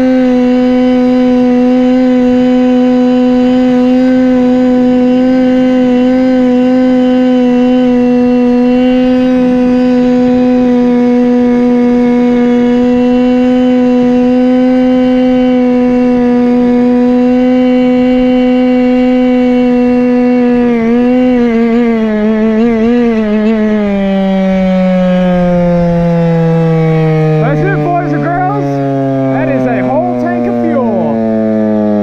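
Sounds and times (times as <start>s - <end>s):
small two-stroke engine running: 0.0s - 32.0s.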